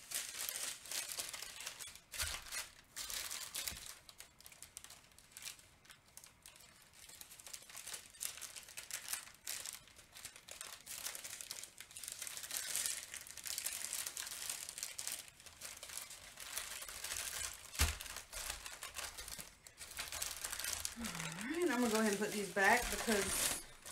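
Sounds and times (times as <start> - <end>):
plastic bags crinkling: 0.0 - 23.9.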